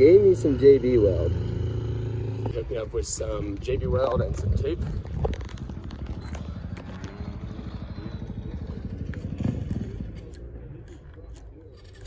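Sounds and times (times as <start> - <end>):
dirt bike engine running: 0.0 - 11.2.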